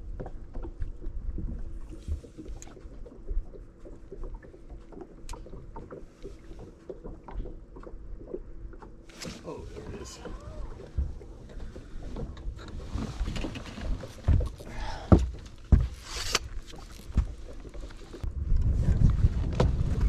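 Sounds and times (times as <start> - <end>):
low rumble: 0.0 - 15.7, 17.1 - 20.0.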